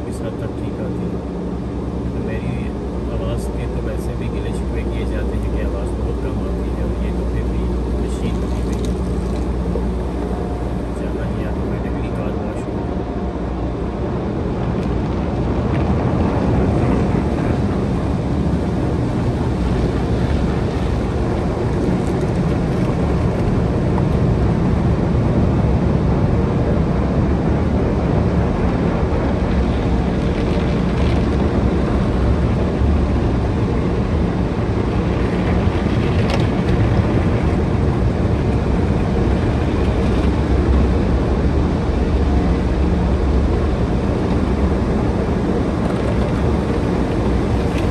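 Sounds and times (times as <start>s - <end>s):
car wash machinery rumbling: 0.0s - 47.9s.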